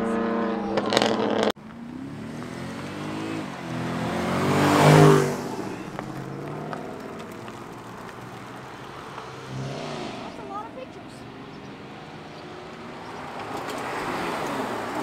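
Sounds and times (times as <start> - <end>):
sports car accelerating past: 0.0 - 15.0.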